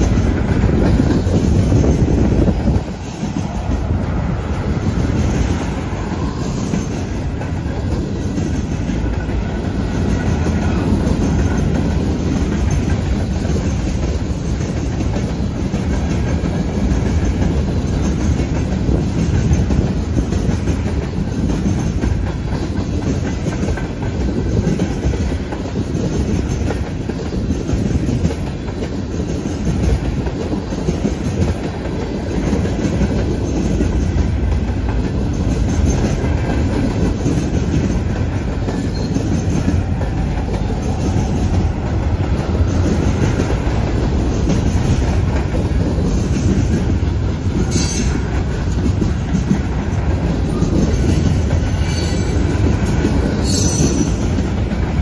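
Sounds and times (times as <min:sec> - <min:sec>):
steel wheels rumbling on rail: 0:00.0 - 0:55.0
wheels clacking over rail joints: 0:00.0 - 0:55.0.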